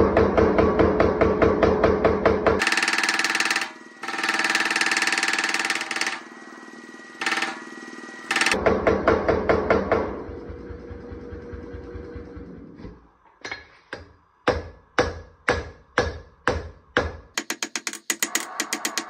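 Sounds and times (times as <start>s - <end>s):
power hammer pounding steel: 0.0s - 11.0s, 14.5s - 19.0s.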